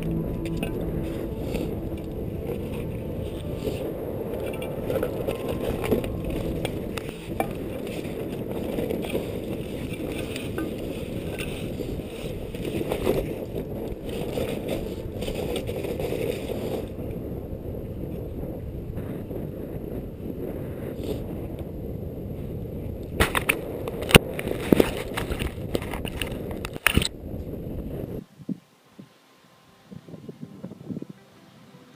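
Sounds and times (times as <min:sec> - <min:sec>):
wind on microphone: 0:00.0 - 0:29.2, 0:29.8 - 0:31.8.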